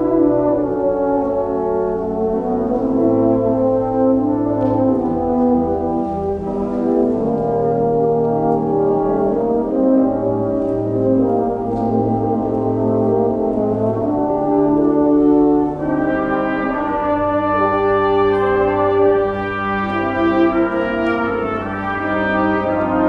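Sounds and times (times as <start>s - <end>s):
wind band playing slow chords: 0.0s - 23.0s.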